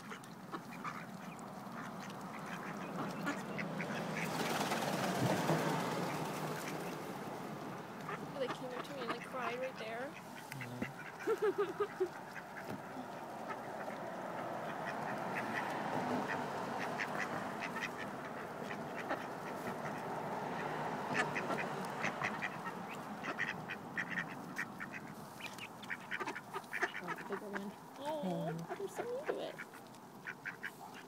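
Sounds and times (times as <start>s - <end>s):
ducks quacking softly: 0.0s - 4.6s, 5.6s - 31.0s.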